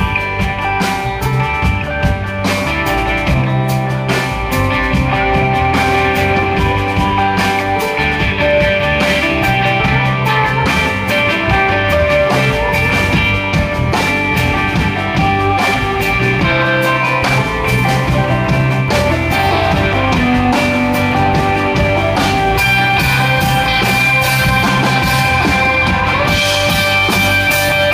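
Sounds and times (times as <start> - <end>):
drum kit: 0.0 - 27.9
electric bass: 0.0 - 27.9
electric guitars: 0.0 - 27.9.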